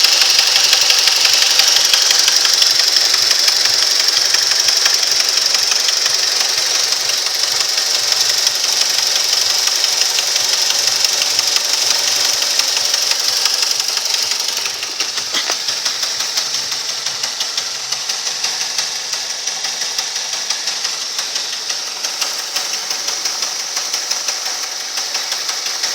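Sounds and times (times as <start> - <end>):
car engine running: 0.0 - 25.9
rapid steady engine knock: 0.0 - 25.9.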